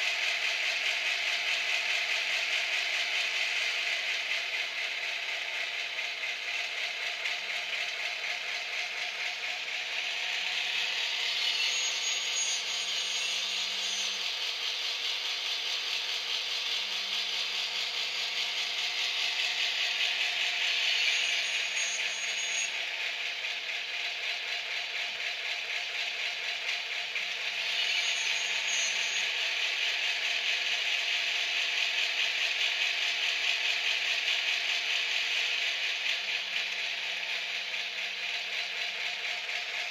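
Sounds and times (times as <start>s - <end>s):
model locomotive diesel engine sound: 0.0s - 39.9s.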